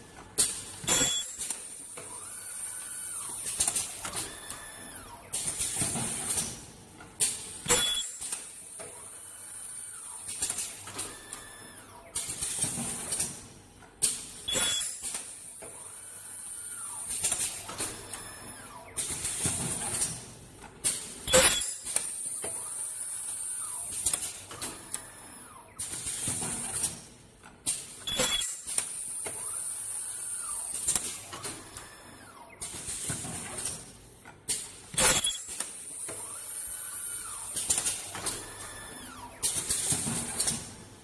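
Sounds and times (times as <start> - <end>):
machine clack with squeal: 0.8 - 6.5, 7.6 - 9.1, 9.8 - 13.3, 14.5 - 20.2, 20.8 - 26.9, 28.0 - 33.8, 34.5 - 40.7.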